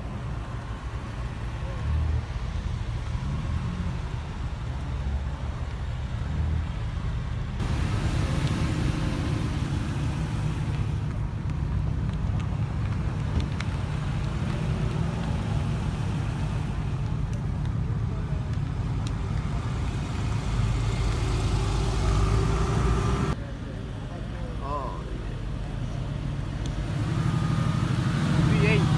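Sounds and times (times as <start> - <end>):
tyre noise on asphalt: 0.0 - 23.5
cars driving slowly: 0.0 - 28.9.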